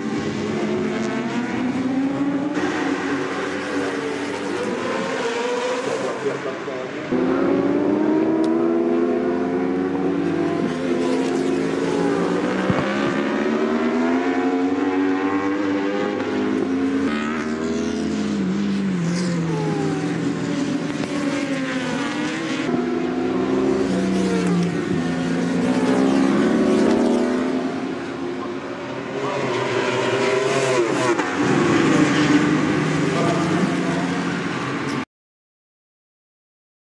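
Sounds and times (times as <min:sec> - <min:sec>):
motorcycle engines revving high: 0:00.0 - 0:35.0.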